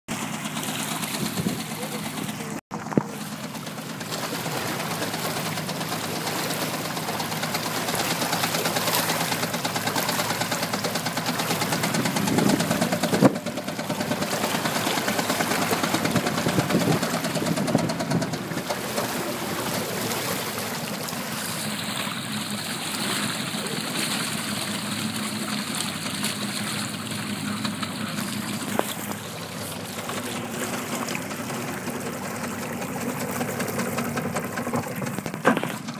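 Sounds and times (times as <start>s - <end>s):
outboard engine idling with knock: 0.1s - 35.9s
water splashing: 0.1s - 35.9s.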